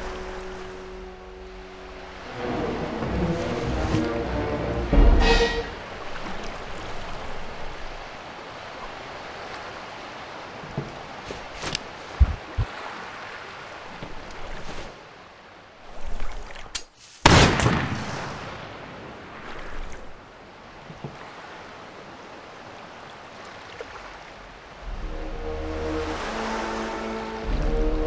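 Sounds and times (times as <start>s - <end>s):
sea waves: 0.0s - 28.0s.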